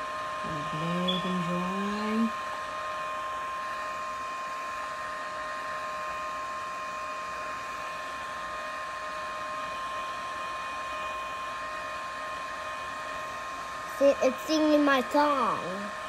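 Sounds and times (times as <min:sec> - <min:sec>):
handheld electric fan whining: 0:00.0 - 0:16.0.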